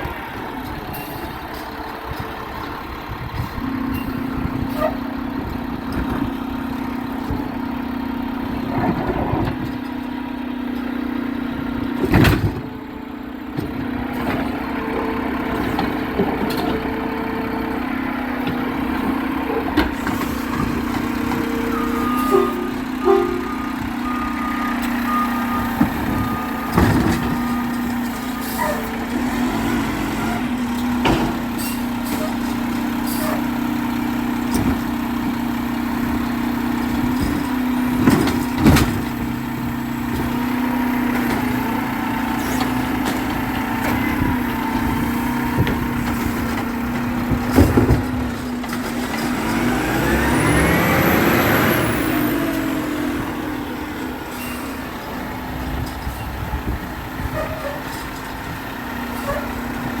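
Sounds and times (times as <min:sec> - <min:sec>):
garbage truck engine running: 0:00.0 - 1:00.0.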